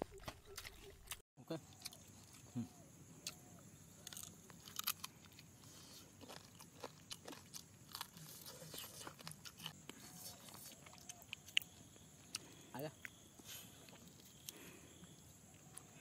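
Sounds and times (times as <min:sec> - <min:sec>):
person chewing and crunching: 0:00.1 - 0:16.0.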